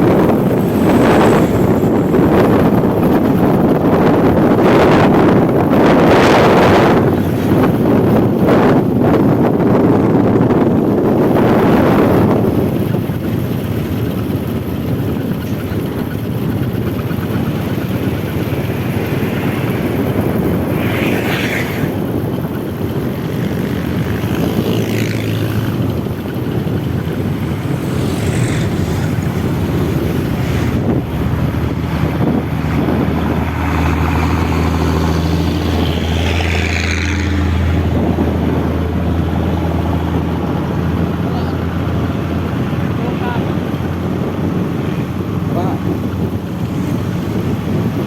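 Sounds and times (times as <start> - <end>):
heavy truck engines droning: 0.0 - 48.0
passing vehicles: 0.0 - 48.0.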